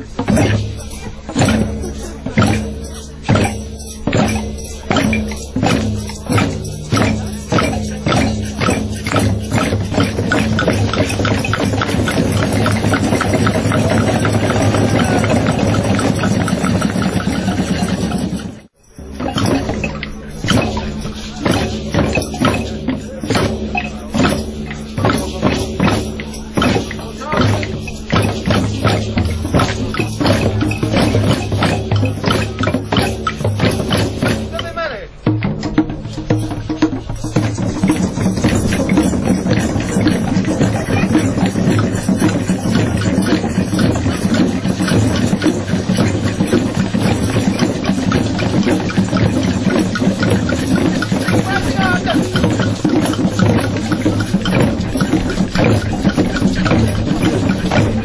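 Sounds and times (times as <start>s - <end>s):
hand drums playing rhythm: 0.0s - 58.0s
maracas shaking: 0.0s - 58.0s.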